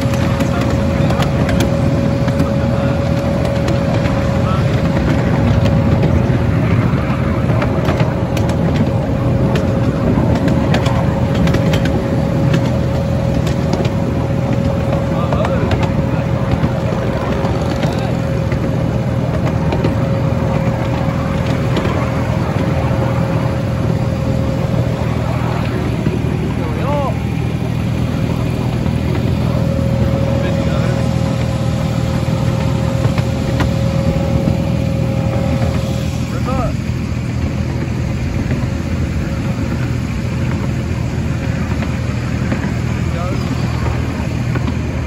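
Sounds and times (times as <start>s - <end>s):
miniature train engine humming: 0.0s - 45.0s.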